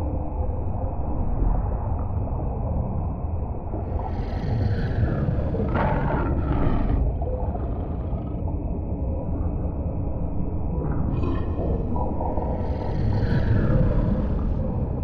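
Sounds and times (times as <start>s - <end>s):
deep underwater rumble: 0.2s - 15.0s.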